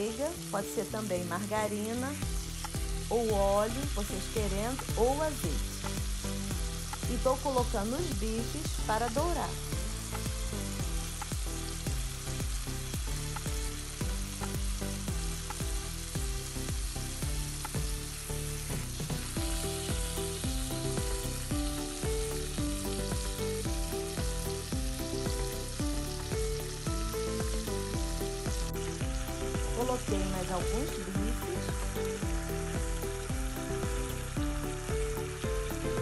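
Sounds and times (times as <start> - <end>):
quiet background music: 0.0 - 36.0
steaks sizzling in frying pan: 0.0 - 36.0.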